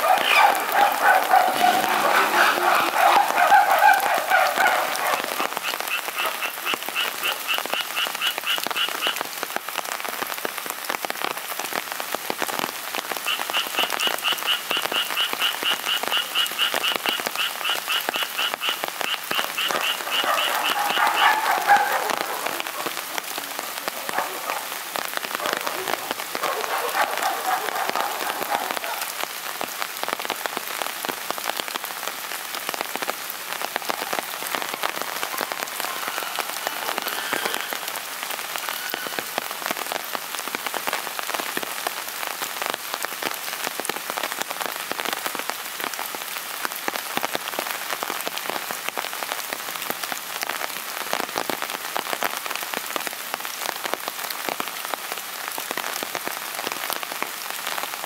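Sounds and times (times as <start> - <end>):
steady rain on hard surfaces: 0.0 - 58.0.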